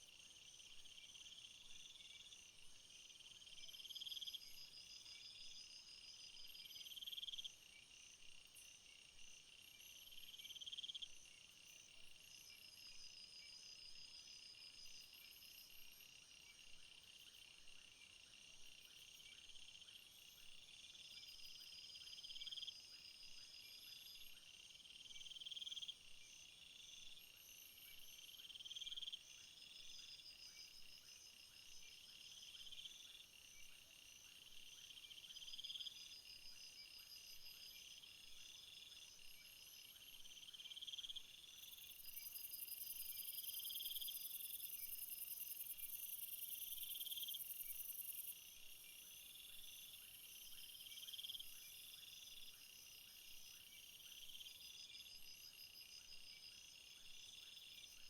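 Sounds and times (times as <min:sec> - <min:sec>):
crickets chirping: 0:00.0 - 0:58.0
steady insect trill: 0:00.0 - 0:58.0.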